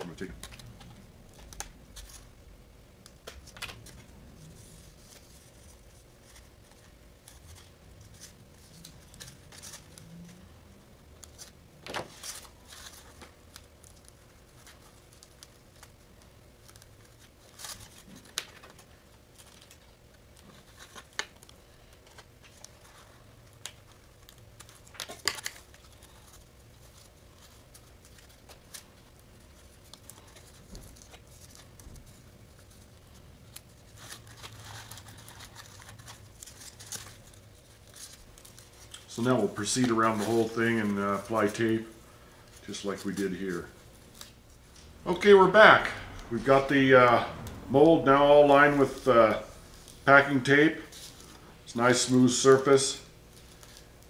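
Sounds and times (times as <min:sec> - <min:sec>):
packing tape crinkling: 0:00.0 - 0:46.7.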